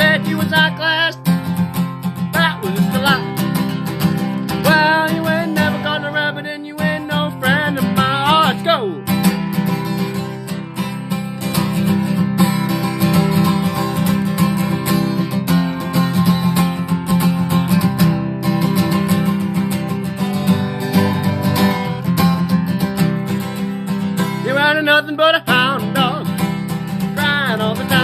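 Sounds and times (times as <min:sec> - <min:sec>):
rock and roll guitar: 0:00.0 - 0:28.0.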